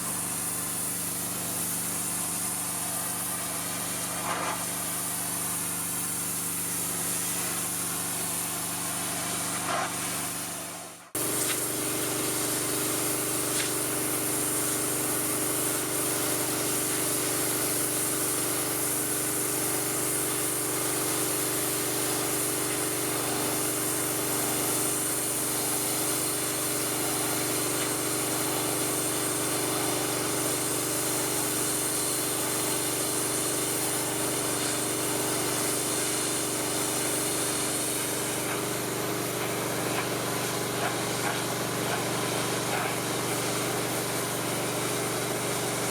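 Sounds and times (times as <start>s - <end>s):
high-pressure water spray hissing: 0.0s - 45.9s
pressure washer engine running: 0.0s - 45.9s.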